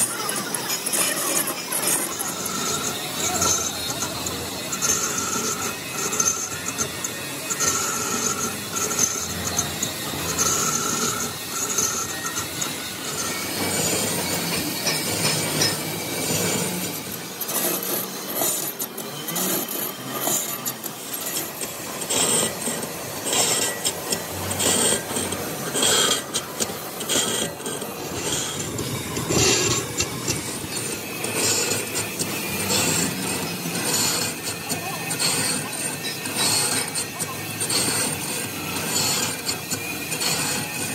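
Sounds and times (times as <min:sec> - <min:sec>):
lathe tool scraping metal: 0:00.0 - 0:40.9
steady whine: 0:00.0 - 0:40.9.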